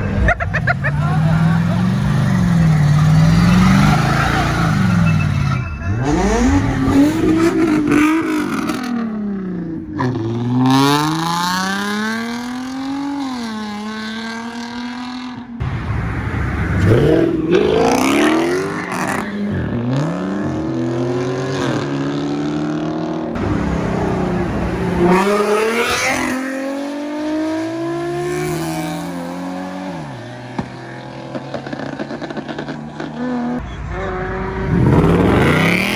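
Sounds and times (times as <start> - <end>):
car engines revving: 0.0 - 35.9.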